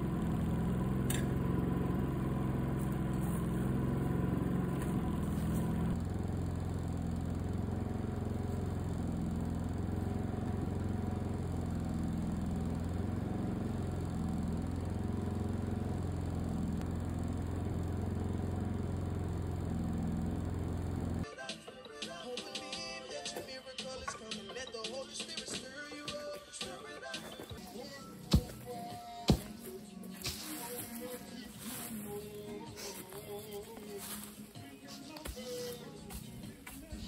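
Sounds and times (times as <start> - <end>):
portable generator engine running: 0.0 - 21.3, 27.4 - 37.0.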